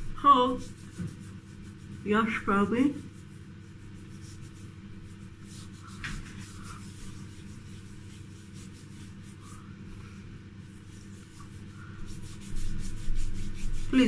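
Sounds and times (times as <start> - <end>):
fingers rubbing skin: 0.0 - 9.8, 10.6 - 14.0
steady low hum: 0.0 - 14.0.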